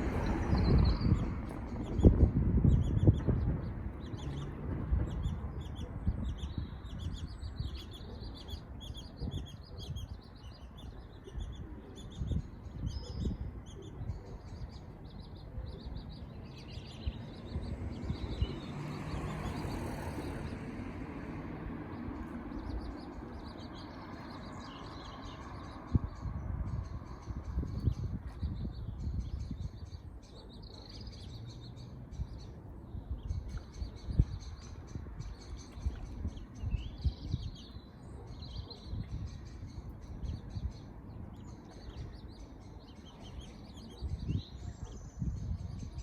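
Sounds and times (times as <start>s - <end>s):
birds chirping: 0.0s - 46.0s.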